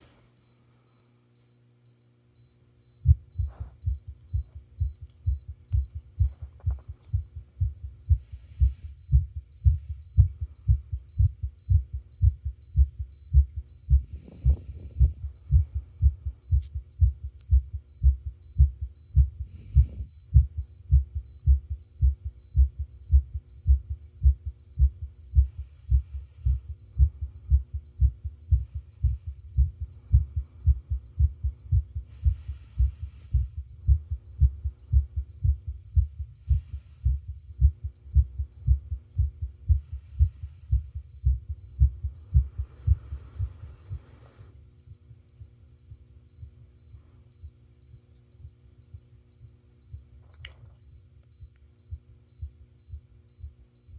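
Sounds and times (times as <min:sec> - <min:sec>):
faint steady hum: 0:00.0 - 0:53.9
heartbeat: 0:01.9 - 0:50.1, 0:50.8 - 0:53.9.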